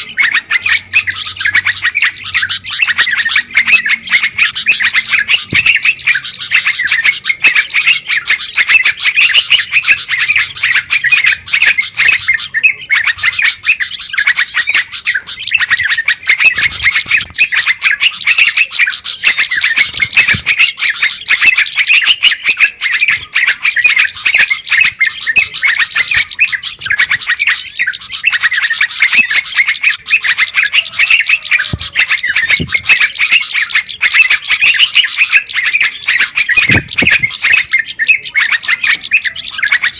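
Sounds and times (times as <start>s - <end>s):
songbirds chirping chorus: 0.0s - 39.9s.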